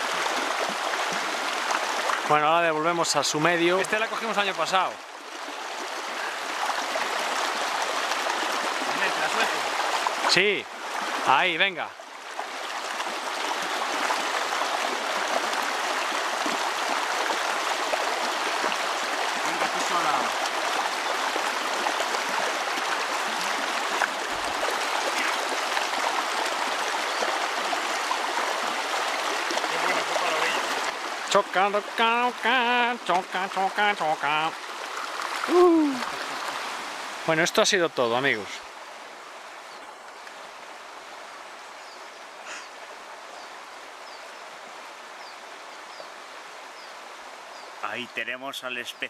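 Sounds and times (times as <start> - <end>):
shallow river rushing: 0.0 - 49.0.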